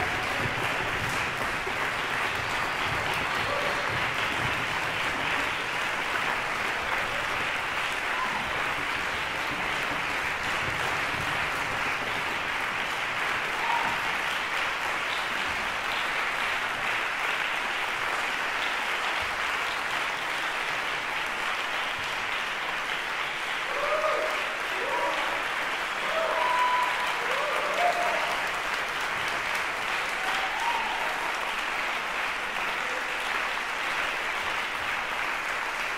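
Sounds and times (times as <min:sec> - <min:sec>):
audience applauding: 0:00.0 - 0:35.9.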